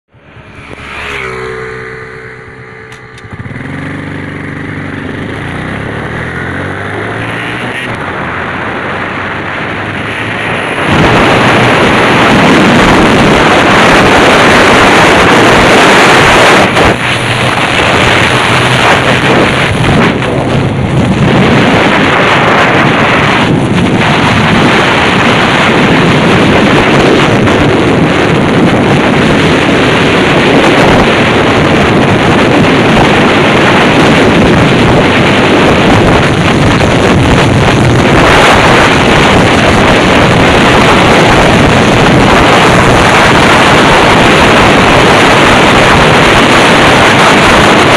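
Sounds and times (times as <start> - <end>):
motorcycle engine accelerating: 0.1 - 47.9
wind noise on microphone: 0.1 - 47.9.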